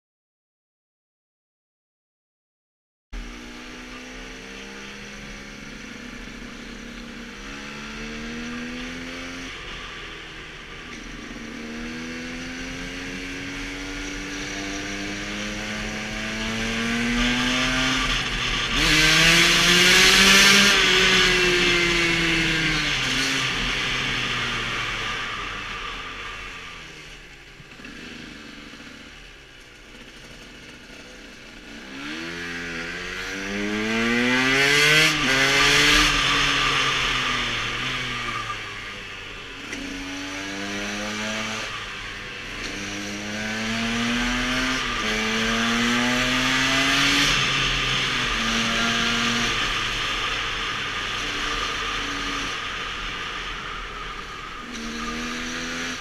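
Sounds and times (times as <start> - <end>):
motorcycle engine shifting gears: 3.2 - 56.0.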